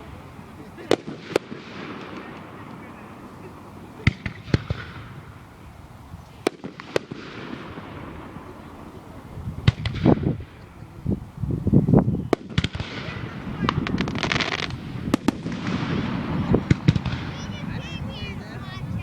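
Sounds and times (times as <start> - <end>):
deep firework booms: 0.0 - 5.6, 6.4 - 10.6, 11.5 - 17.9
firework bangs: 0.0 - 5.6, 6.4 - 10.6, 12.2 - 18.1.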